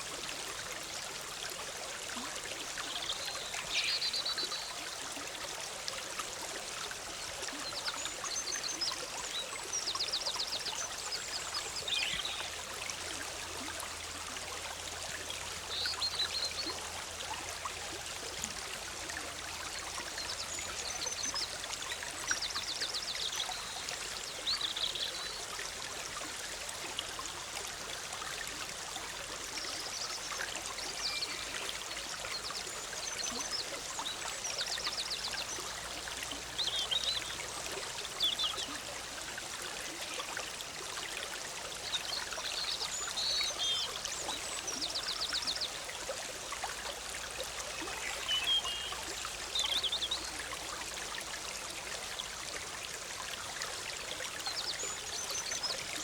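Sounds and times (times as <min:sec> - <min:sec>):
stream bubbling: 0:00.0 - 0:56.0.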